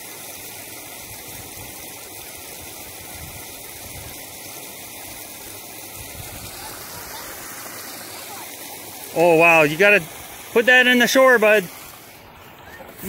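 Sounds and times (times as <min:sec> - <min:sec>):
flowing creek: 0:00.0 - 0:13.0.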